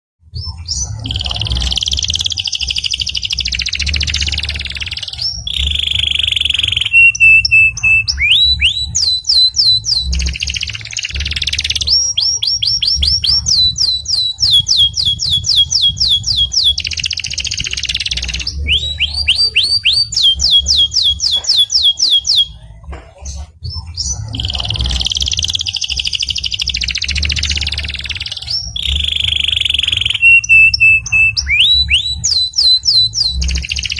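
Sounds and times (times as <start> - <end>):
canary singing trills: 0.3 - 33.9.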